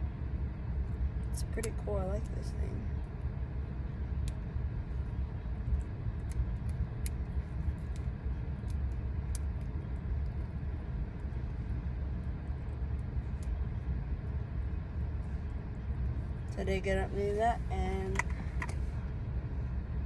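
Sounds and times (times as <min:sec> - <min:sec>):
road noise inside moving car: 0:00.0 - 0:20.0.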